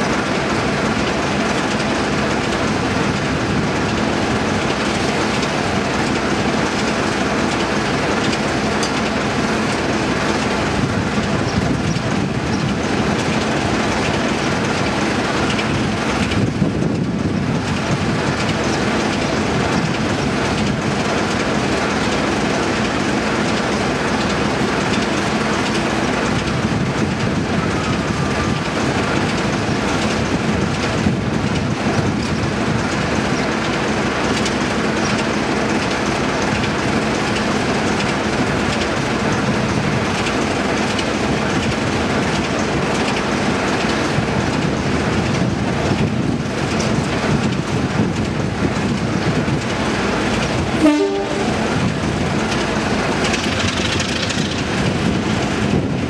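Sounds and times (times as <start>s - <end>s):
diesel locomotive engine idling: 0.0s - 56.0s.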